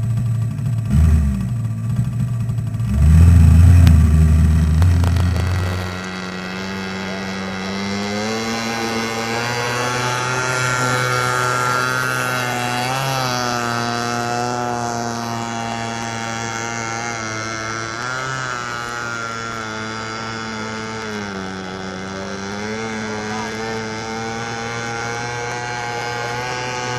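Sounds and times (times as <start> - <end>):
model boat engine buzzing: 0.0 - 26.9.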